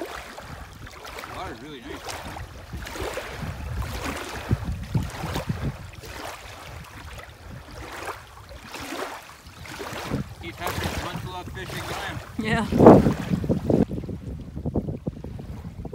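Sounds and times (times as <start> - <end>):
lake waves lapping: 0.0 - 15.9
wind buffeting microphone: 0.0 - 15.9.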